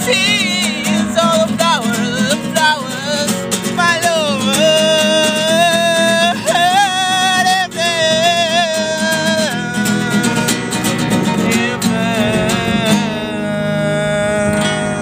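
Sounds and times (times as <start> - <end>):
man singing: 0.0 - 15.0
strummed nylon-string guitar: 0.0 - 15.0.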